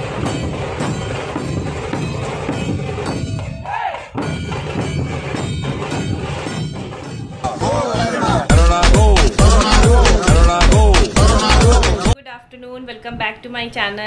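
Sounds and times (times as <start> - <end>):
music with percussive beat: 0.0 - 12.2.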